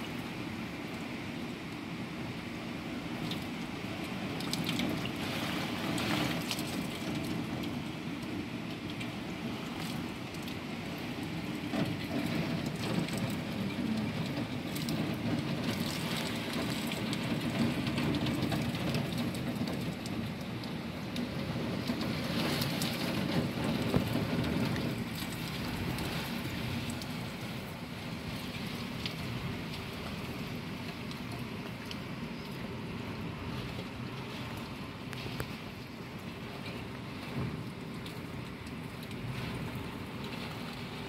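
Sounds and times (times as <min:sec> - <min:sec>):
heavy rain on window: 0:00.0 - 0:41.0.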